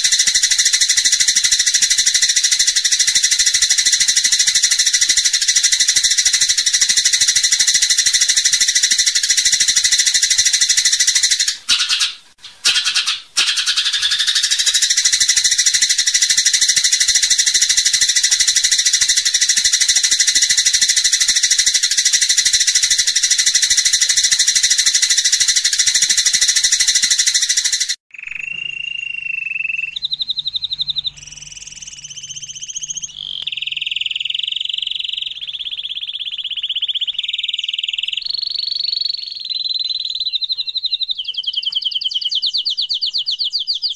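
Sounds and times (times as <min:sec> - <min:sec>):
high pulsing bird trill: 0:00.0 - 0:42.2.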